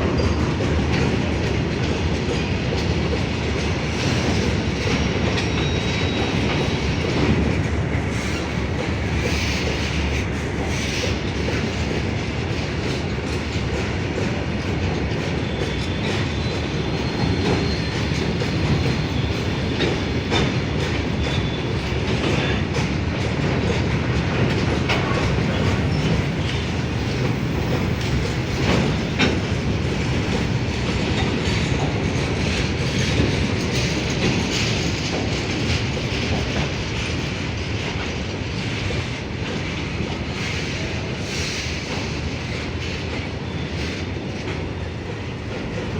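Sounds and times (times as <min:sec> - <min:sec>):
freight train wheels clacking: 0:00.0 - 0:45.9.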